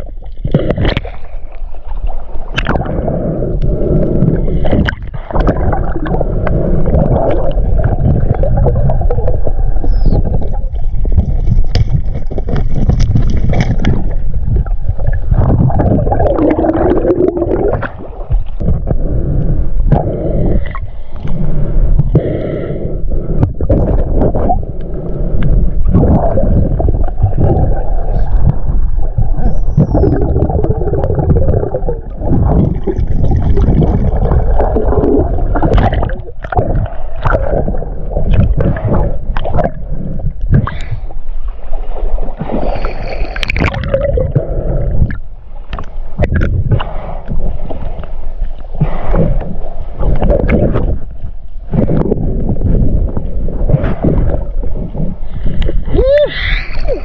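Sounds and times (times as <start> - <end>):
underwater rumble and bubbles: 0.0 - 57.0.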